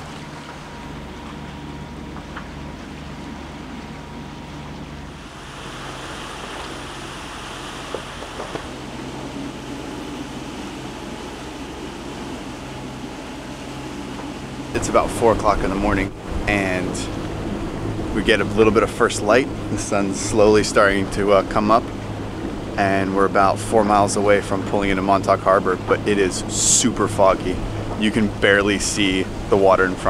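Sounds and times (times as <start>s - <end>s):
low boat hum: 0.0s - 30.0s
water rushing along hull: 0.0s - 30.0s.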